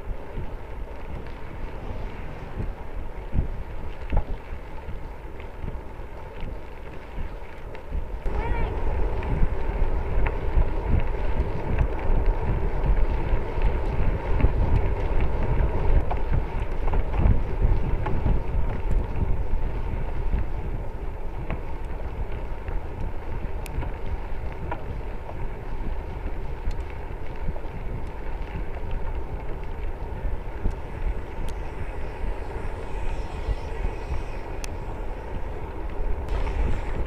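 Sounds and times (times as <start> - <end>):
bicycle rolling on gravel: 0.0 - 37.0
wind buffeting microphone: 0.0 - 37.0.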